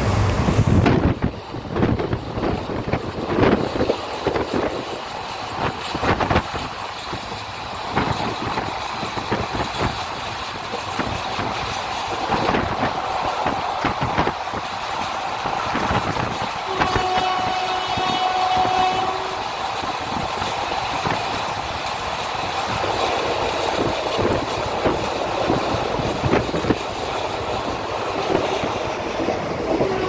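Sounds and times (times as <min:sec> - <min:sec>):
train running noise: 0:00.0 - 0:30.0
wind buffeting microphone: 0:00.0 - 0:30.0.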